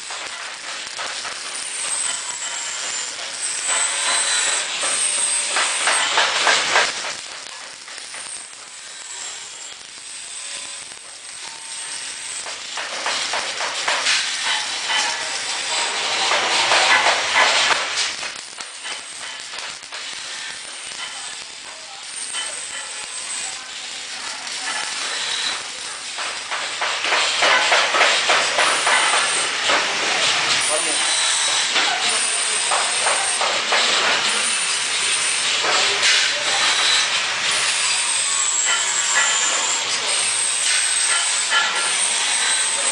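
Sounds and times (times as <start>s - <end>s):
welding arc crackling and hissing: 0.0s - 42.9s.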